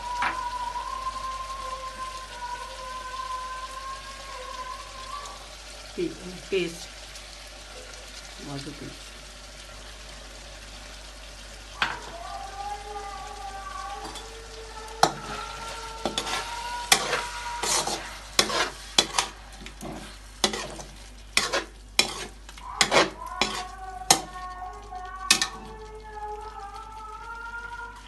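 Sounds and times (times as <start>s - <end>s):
food sizzling: 0.0s - 28.0s.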